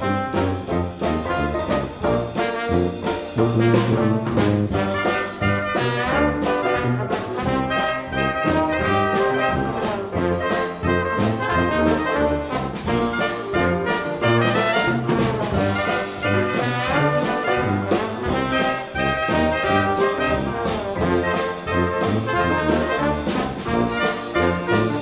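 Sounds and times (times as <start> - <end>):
jazzy brass swing music: 0.0 - 25.0.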